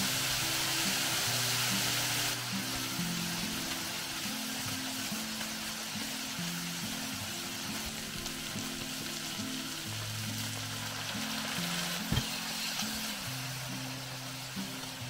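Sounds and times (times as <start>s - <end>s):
background music: 0.0s - 15.0s
food sizzling in frying pan: 0.0s - 15.0s
water poured into pan: 0.0s - 15.0s.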